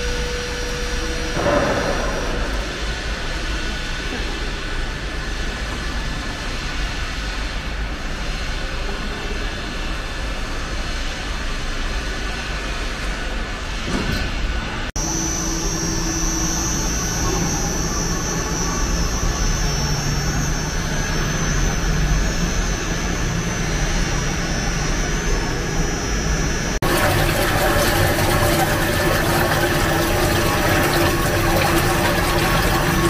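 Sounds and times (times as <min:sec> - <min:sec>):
mill machine humming and whining: 0:00.0 - 0:33.0.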